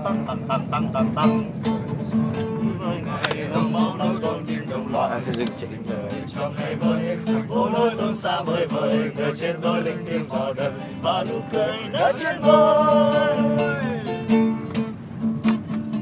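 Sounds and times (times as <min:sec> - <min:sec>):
men singing together: 0:00.0 - 0:14.6.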